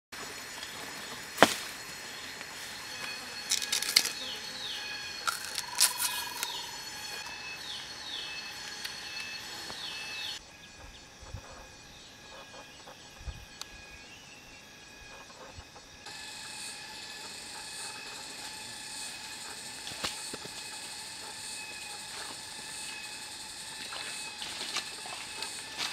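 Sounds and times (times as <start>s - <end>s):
birds calling: 0.2s - 25.9s
insects droning: 0.2s - 25.9s.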